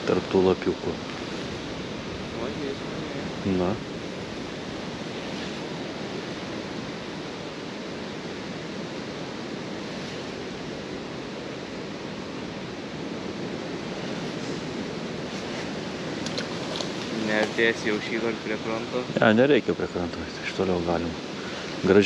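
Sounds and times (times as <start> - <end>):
river water rushing: 0.9 - 22.0.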